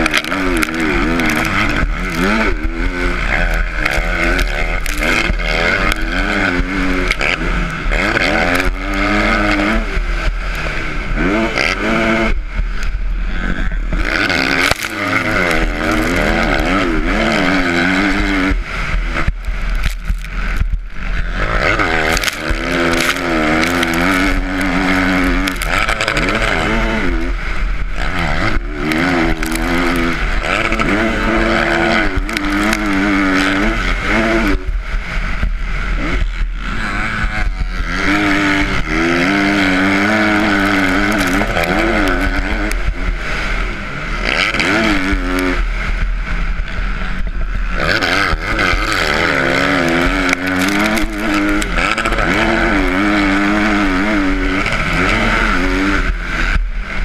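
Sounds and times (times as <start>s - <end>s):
dirt bike engine revving: 0.0s - 57.0s
wind on microphone: 0.0s - 57.0s.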